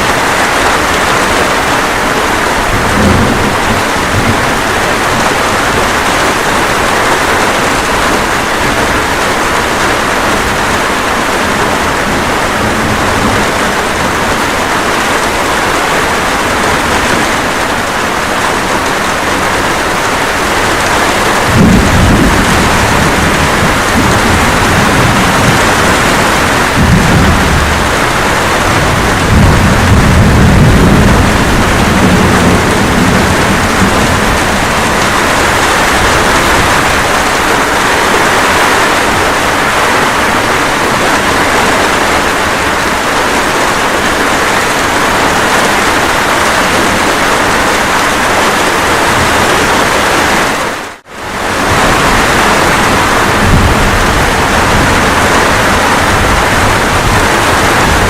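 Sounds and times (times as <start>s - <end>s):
low thunder rumbling: 0.0s - 50.4s, 51.3s - 58.0s
steady rain: 0.0s - 58.0s.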